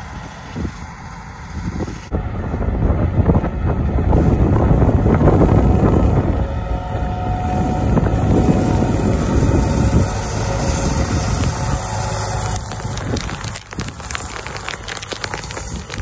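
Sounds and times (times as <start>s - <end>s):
tractor engine running: 0.0s - 16.0s
wind noise on microphone: 0.0s - 16.0s.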